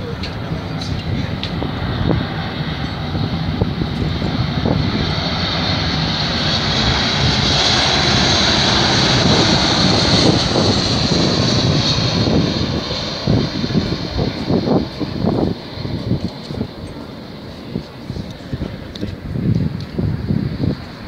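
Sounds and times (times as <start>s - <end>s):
high engine whine: 0.0s - 21.0s
jet airliner engines flying low: 0.0s - 21.0s.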